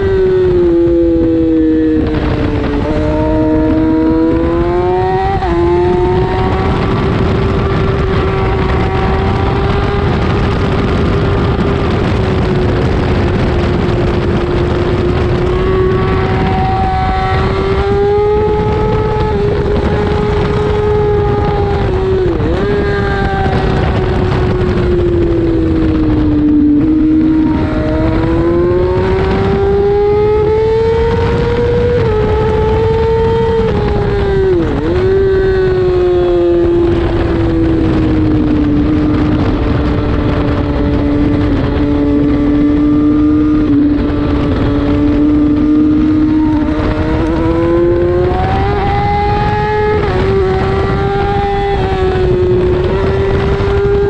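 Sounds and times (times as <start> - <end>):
motorcycle engine at high revs: 0.0 - 54.0
wind rushing: 0.0 - 54.0.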